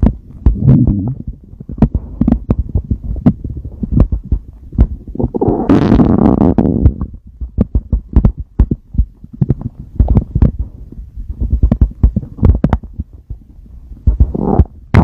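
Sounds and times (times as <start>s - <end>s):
stomach gurgling: 0.0s - 15.0s.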